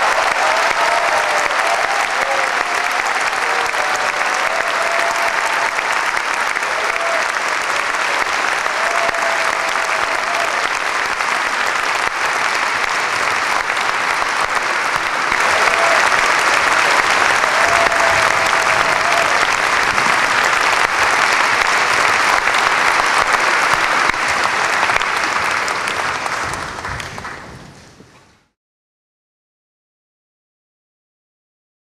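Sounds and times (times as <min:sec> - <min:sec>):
large audience applauding: 0:00.0 - 0:27.8.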